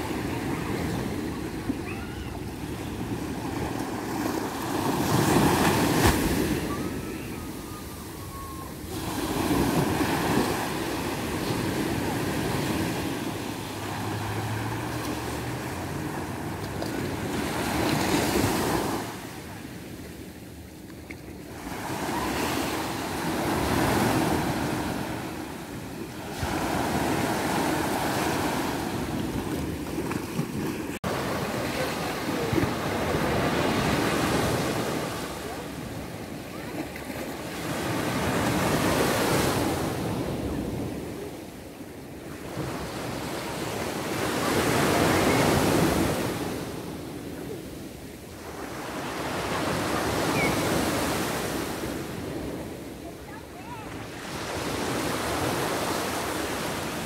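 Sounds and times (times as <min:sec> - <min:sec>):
small waves breaking on beach: 0:00.0 - 0:20.4, 0:21.2 - 0:57.0.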